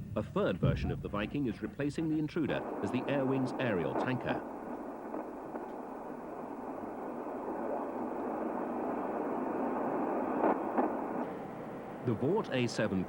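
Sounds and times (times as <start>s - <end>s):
jet engine rushing: 0.6s - 13.0s.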